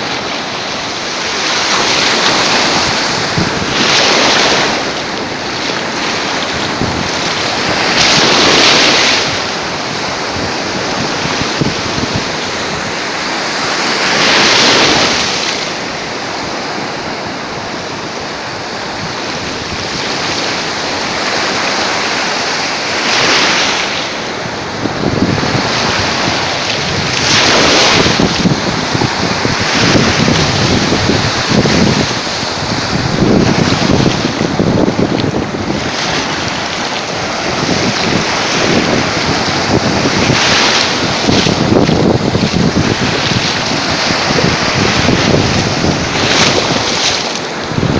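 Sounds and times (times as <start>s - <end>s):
sea waves breaking on shore: 0.0s - 47.9s
wind buffeting microphone: 0.0s - 47.9s.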